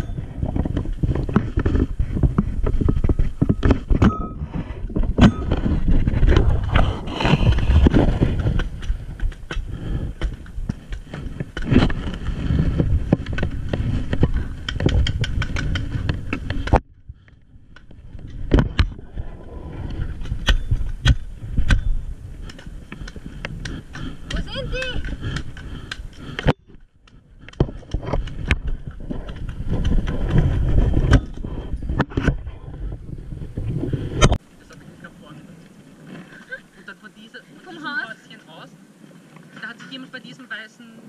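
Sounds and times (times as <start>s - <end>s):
gear rubbing and knocking on camera: 0.0s - 34.4s
low rumble: 0.0s - 34.4s.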